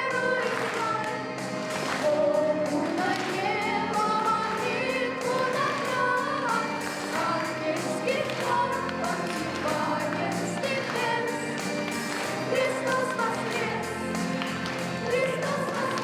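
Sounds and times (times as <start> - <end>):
choir singing with vibrato: 0.0 - 16.0.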